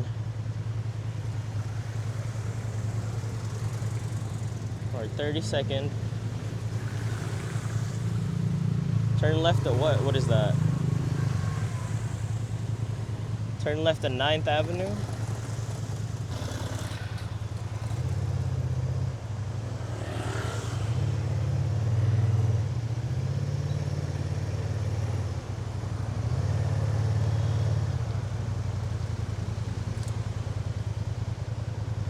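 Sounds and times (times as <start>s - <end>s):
scooter engine running: 0.0s - 32.0s.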